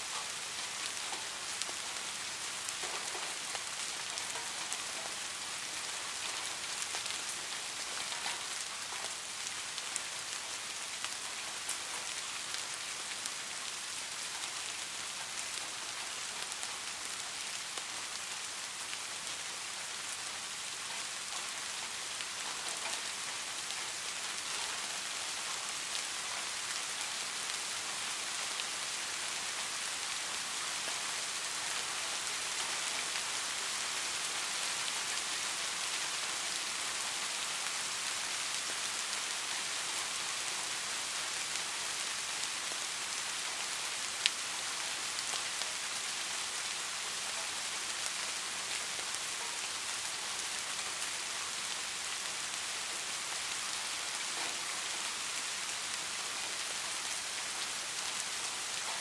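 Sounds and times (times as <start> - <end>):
steady rainfall hiss: 0.0 - 59.0.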